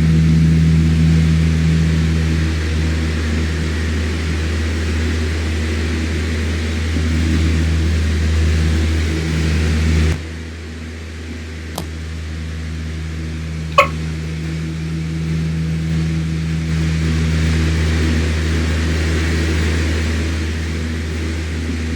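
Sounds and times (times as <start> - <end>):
electric fan running: 0.0 - 21.9.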